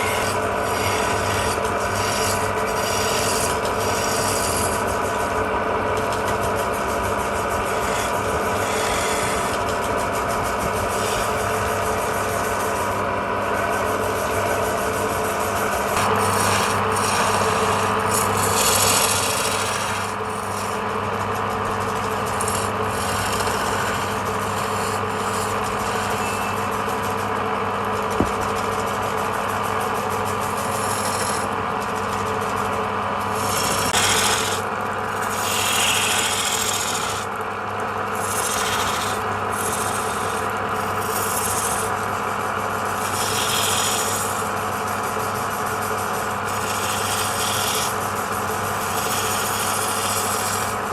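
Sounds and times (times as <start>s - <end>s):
lathe motor hum: 0.0s - 50.9s
tool scraping spinning wood: 0.0s - 50.9s.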